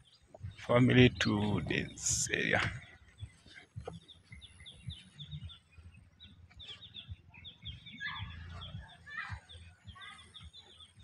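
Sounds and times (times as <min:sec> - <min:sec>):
small birds chirping: 0:00.0 - 0:11.0
soft low thumps: 0:00.0 - 0:11.0.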